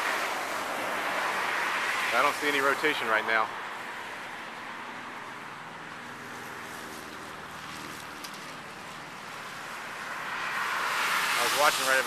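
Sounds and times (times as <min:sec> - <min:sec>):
traffic rush with engine hum: 0:00.0 - 0:12.0.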